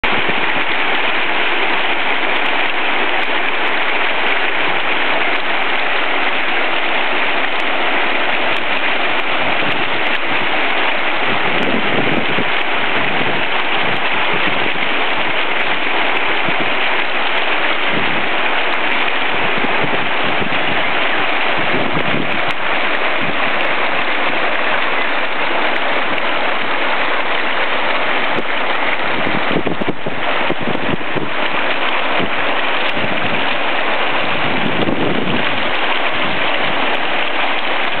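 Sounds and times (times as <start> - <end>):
stream rushing over boulders: 0.0 - 38.0.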